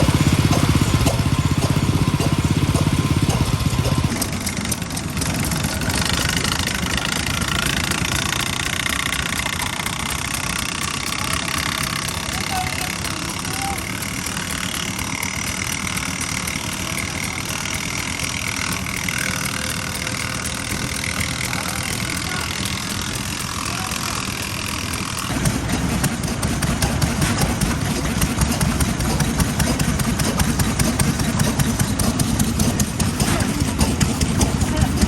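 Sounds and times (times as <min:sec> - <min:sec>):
heavy engine rapid beat: 0:00.0 - 0:35.0
stationary engines running: 0:00.0 - 0:35.0.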